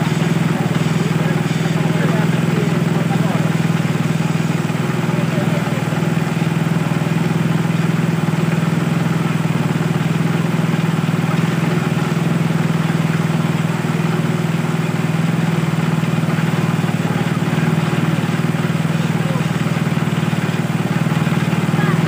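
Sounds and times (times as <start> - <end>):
water pump petrol engine: 0.0 - 22.0.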